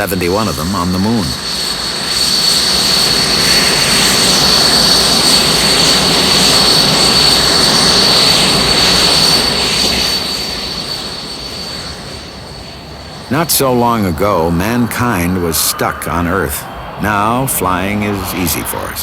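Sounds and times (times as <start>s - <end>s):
jet engine running: 0.0s - 19.0s.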